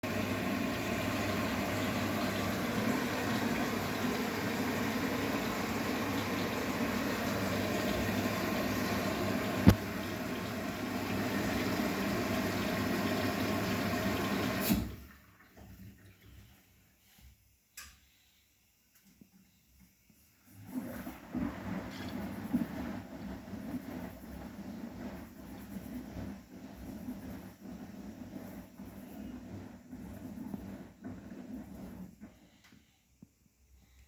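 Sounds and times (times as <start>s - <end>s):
washing machine filling with water: 0.0s - 18.4s, 19.5s - 34.0s.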